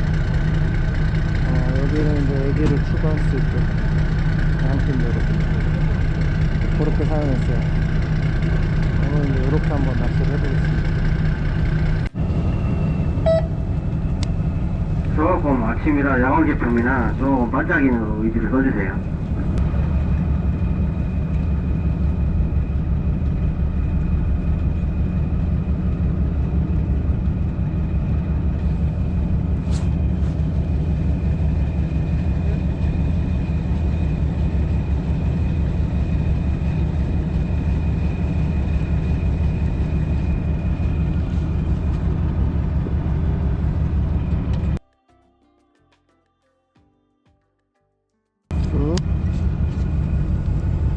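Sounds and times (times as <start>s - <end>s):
boat engine droning: 0.0s - 44.8s, 48.5s - 50.9s
thin steady whine: 0.0s - 44.8s.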